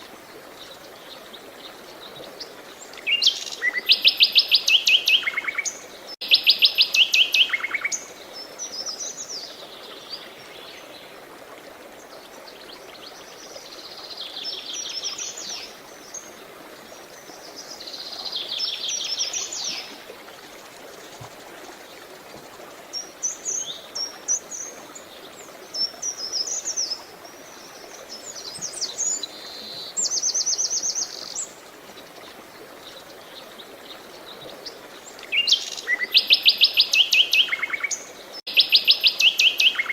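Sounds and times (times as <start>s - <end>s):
flowing water hiss: 0.0s - 39.9s.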